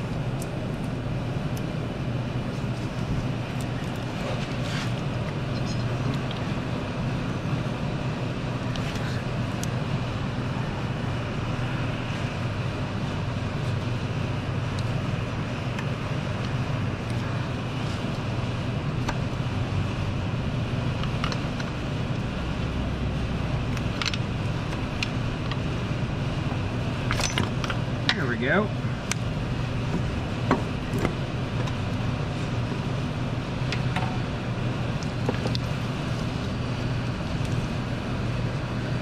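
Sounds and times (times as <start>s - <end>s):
workshop low hum: 0.0s - 39.0s.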